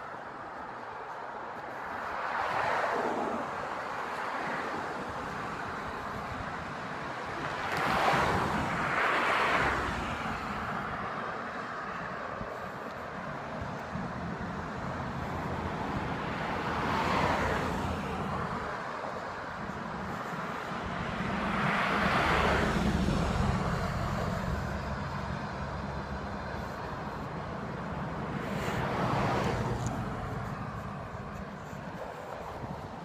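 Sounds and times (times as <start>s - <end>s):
road traffic rumble: 0.0s - 33.0s
vehicles passing: 0.0s - 33.0s.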